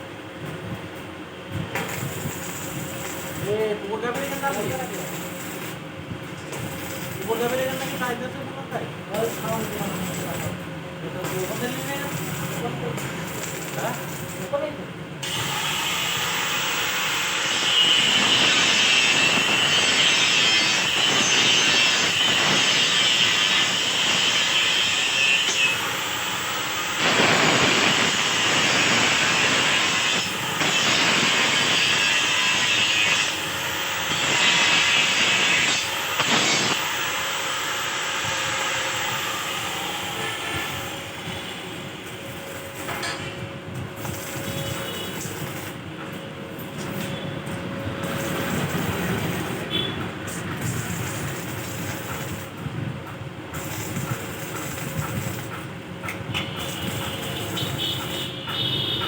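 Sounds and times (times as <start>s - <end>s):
rasping metalworking noise: 1.7s - 59.0s.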